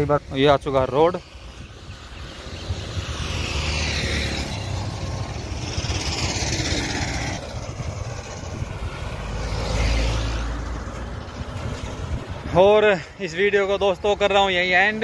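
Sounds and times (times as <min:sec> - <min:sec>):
wind rumble on microphone: 0:00.0 - 0:12.9
vehicles passing on road: 0:00.0 - 0:15.0.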